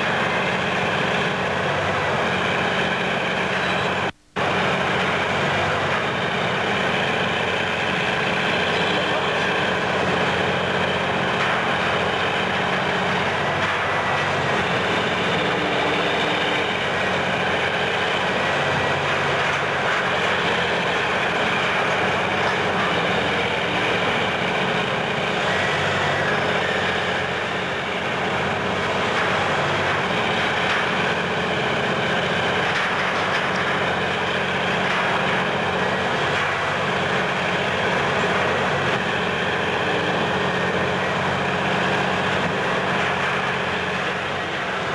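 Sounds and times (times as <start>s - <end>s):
heavy diesel crane engine running: 0.0s - 44.9s.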